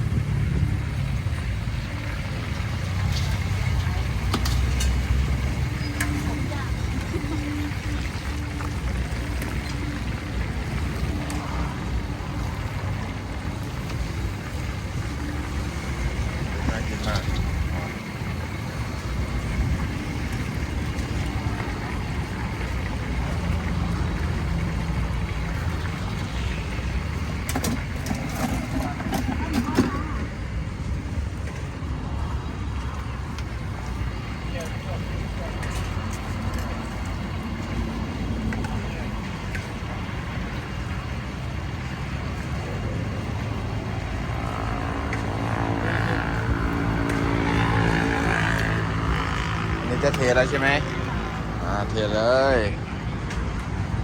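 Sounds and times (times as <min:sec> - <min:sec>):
low motor rumble: 0:00.0 - 0:54.0
vehicle engine running: 0:00.0 - 0:54.0.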